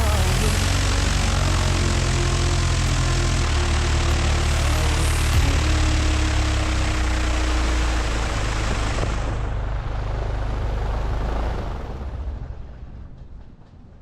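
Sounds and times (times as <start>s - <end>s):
propeller plane engine running: 0.0s - 14.0s.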